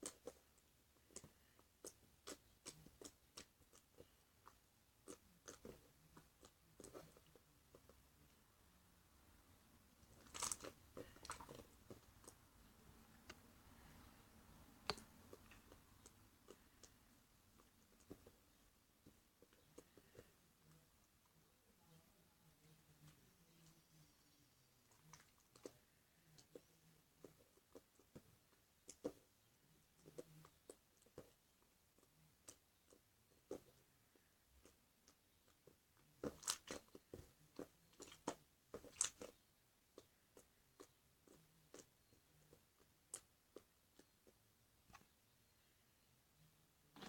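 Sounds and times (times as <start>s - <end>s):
crackly slime squelch: 0.0s - 8.4s, 9.9s - 21.4s, 24.9s - 45.2s.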